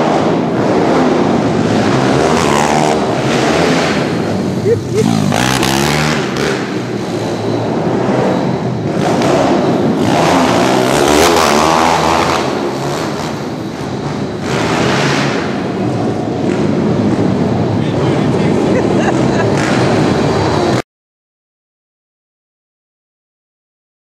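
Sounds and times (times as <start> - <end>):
motorbike engines revving: 0.0 - 20.8.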